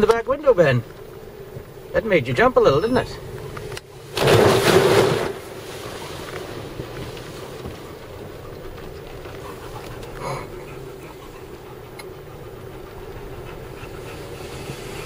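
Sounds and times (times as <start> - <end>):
low car hum: 0.0 - 15.0.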